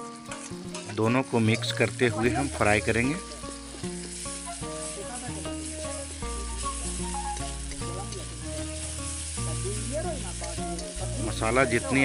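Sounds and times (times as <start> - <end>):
background music with deep bass: 0.0 - 12.0
paste sizzling in hot oil: 0.0 - 12.0
spatula stirring in wok: 0.1 - 12.0.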